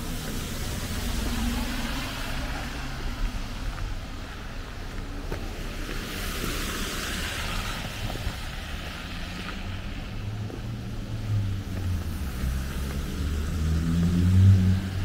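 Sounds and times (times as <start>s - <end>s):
car engine rumble: 0.0s - 15.0s
tyre hiss on wet road: 0.0s - 15.0s.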